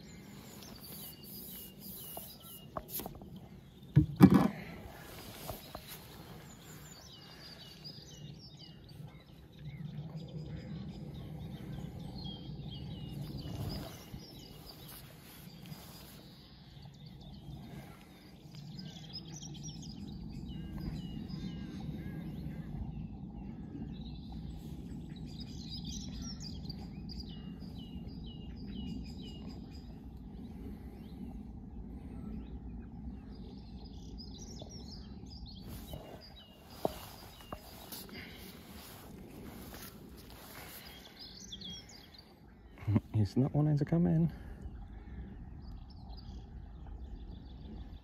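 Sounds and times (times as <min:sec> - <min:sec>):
songbirds singing: 0:00.0 - 0:48.0
low rumble: 0:03.2 - 0:43.2, 0:44.3 - 0:48.0.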